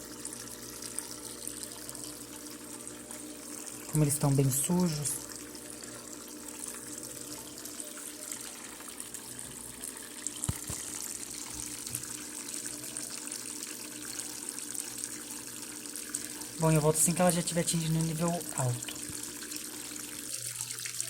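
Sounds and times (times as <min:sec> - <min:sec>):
water pouring into washing machine: 0:00.0 - 0:21.0.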